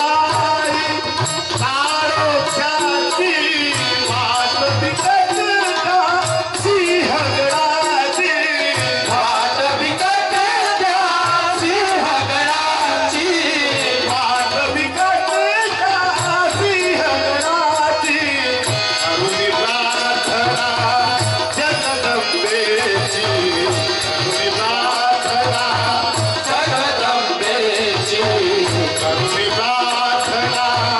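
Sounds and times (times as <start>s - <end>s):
harmonium: 0.0s - 30.9s
jingling frame drums: 0.0s - 30.9s
men singing: 0.0s - 30.9s
tabla rhythm: 0.0s - 30.9s.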